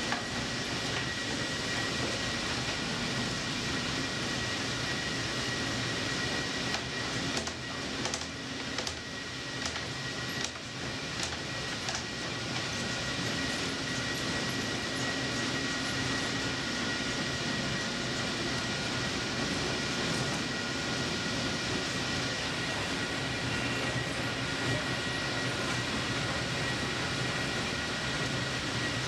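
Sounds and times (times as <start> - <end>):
high mechanical whine: 0.0 - 29.0.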